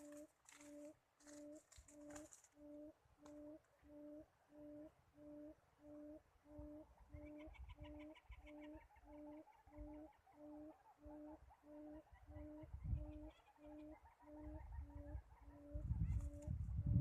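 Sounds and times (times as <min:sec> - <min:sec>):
small bird chittering trill: 0:00.0 - 0:16.6
dove cooing: 0:00.0 - 0:17.0.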